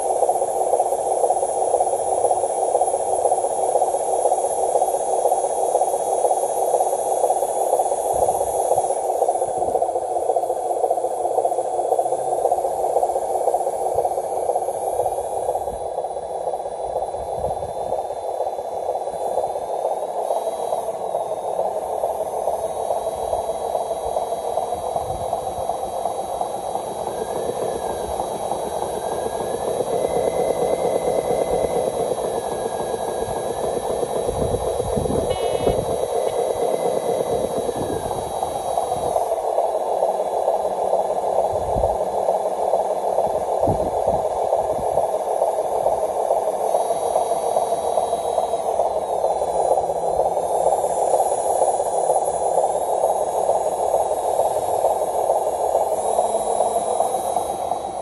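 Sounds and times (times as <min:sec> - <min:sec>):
model truck motor running: 0:00.0 - 0:58.0.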